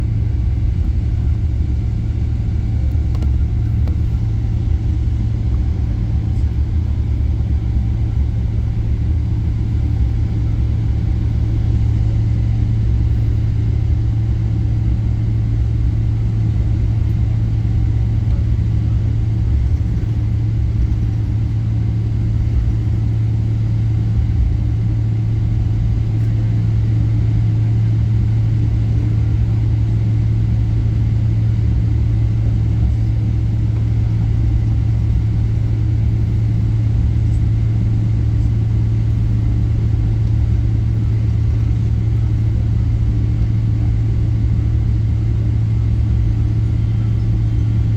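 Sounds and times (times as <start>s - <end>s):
airliner rumble: 0.0s - 47.9s.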